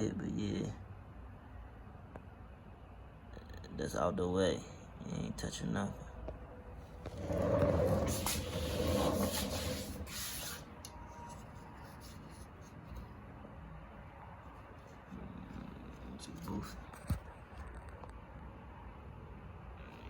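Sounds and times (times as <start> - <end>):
radiator cooling fans running: 3.2 - 19.6.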